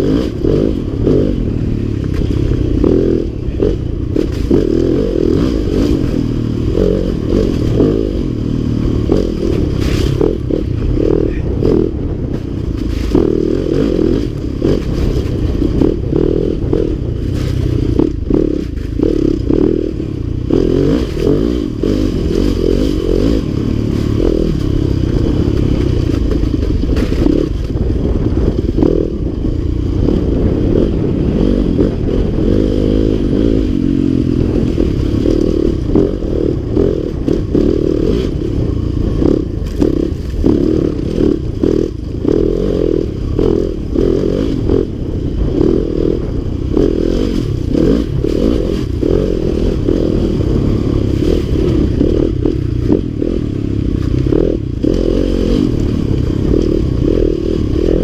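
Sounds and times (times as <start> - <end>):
bike rattling over rough ground: 0.0 - 58.0
dirt bike engine revving: 0.0 - 58.0.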